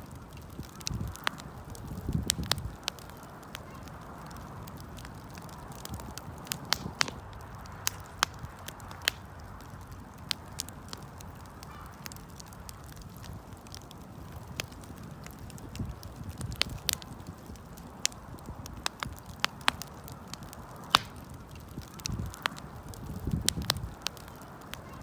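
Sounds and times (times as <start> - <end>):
low rumble of flames: 0.0 - 25.0
wood crackling and popping: 0.0 - 25.0.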